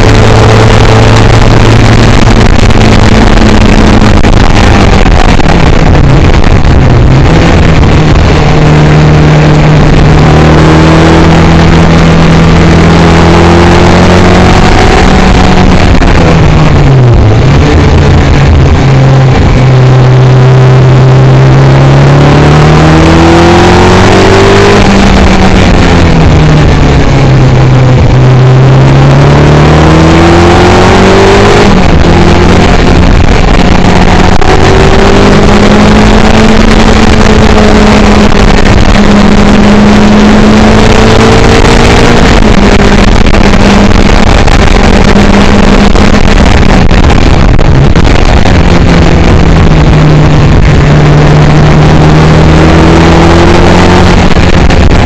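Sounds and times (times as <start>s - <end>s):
car engine revving: 0.0s - 55.0s
wind noise: 0.0s - 55.0s.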